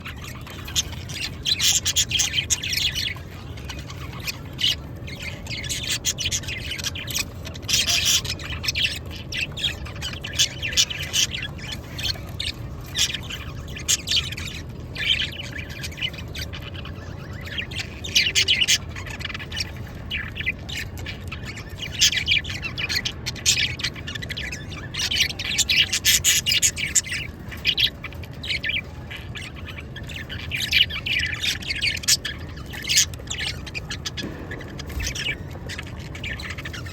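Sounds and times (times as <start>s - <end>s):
parrots chirping and chattering: 0.0s - 36.9s.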